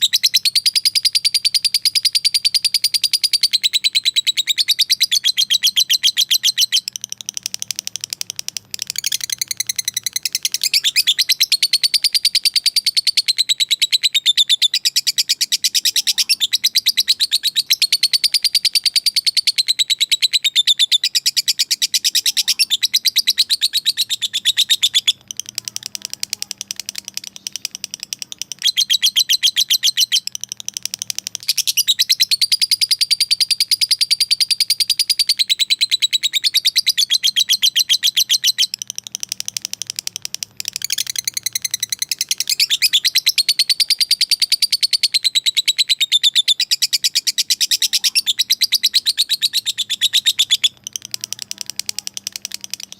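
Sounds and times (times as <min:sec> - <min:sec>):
lovebird shrill chatter: 0:00.0 - 0:52.9.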